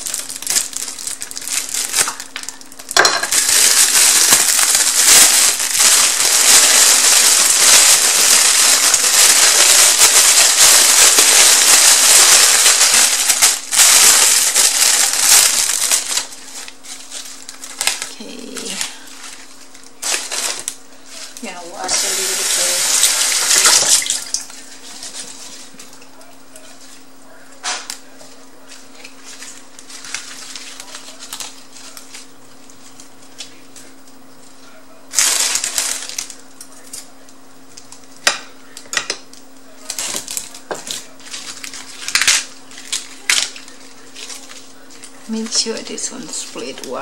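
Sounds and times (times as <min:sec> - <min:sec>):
lettuce leaves rustling: 0:00.0 - 0:27.0, 0:27.8 - 0:34.0, 0:35.1 - 0:37.2, 0:39.7 - 0:47.0.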